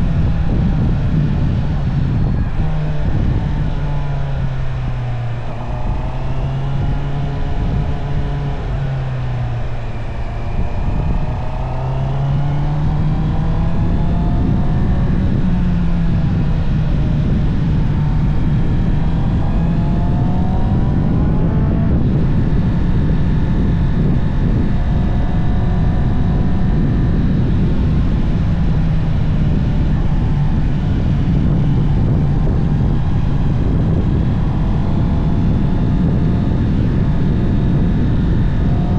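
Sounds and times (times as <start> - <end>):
motorcycle engine: 0.0 - 38.9
wind noise on microphone: 0.0 - 38.9.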